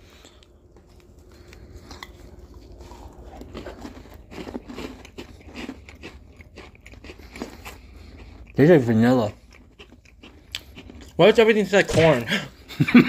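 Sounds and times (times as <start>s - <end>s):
biscuits being chewed: 0.0s - 11.7s.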